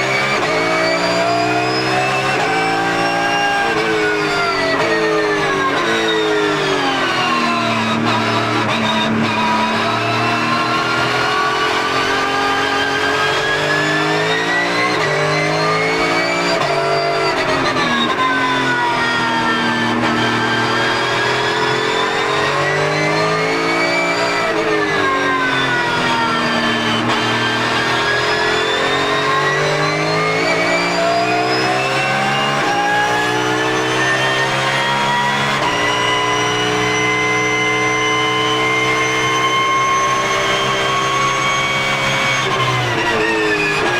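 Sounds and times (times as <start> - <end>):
race car engine at speed: 0.0 - 43.9.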